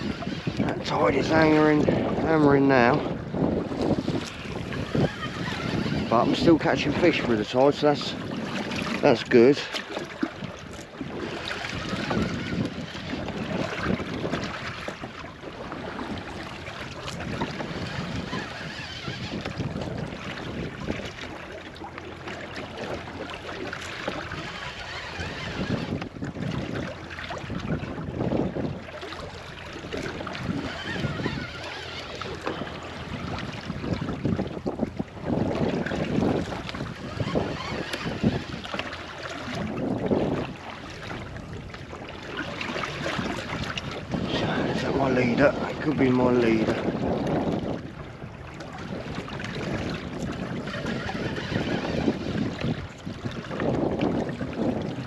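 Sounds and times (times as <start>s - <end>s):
water slapping against boat hull: 0.0s - 55.0s
wind buffeting microphone: 0.0s - 55.0s.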